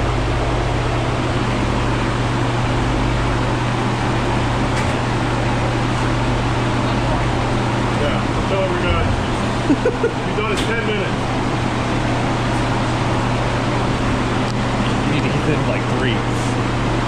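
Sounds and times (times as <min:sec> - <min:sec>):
constant low hum: 0:00.0 - 0:17.0
large fan rushing: 0:00.0 - 0:17.0.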